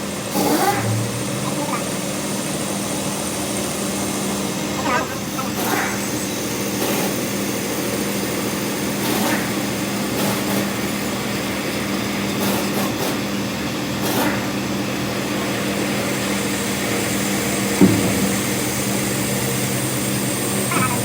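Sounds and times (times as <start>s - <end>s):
workshop machine running: 0.0s - 21.0s.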